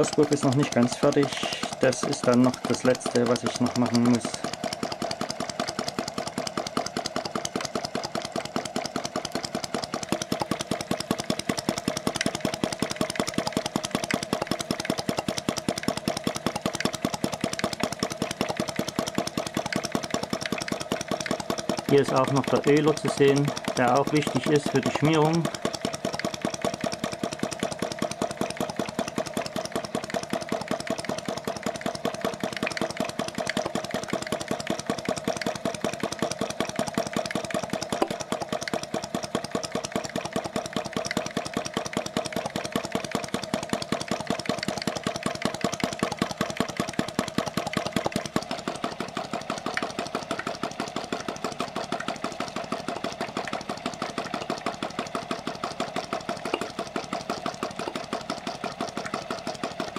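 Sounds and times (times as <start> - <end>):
model engine clattering: 0.0 - 59.9
steady engine hum: 0.0 - 59.9.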